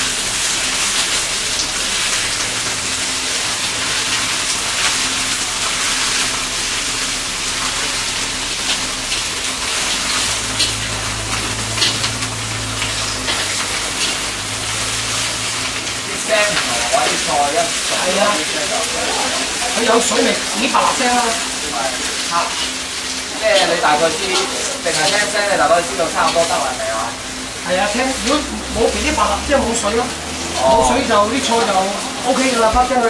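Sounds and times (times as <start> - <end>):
greens sizzling and crackling in wok: 0.0 - 33.0.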